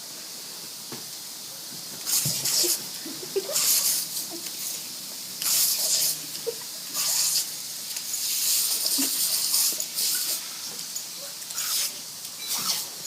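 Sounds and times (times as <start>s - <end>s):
lawn sprinkler spraying water: 0.0s - 13.0s.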